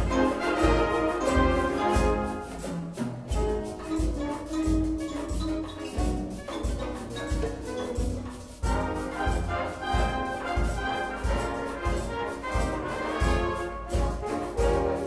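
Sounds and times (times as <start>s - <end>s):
wind band playing latin music: 0.0s - 15.0s.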